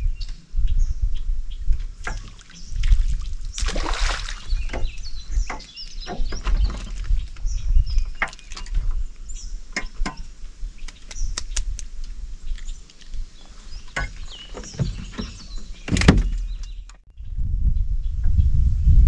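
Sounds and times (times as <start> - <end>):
birds chirping: 0.0 - 17.4.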